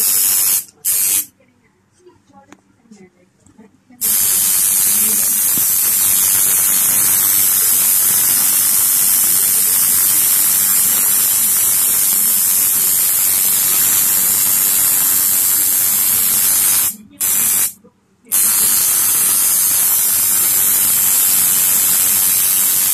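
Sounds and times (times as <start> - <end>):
tattoo machine buzzing: 0.0 - 1.3, 4.0 - 22.9.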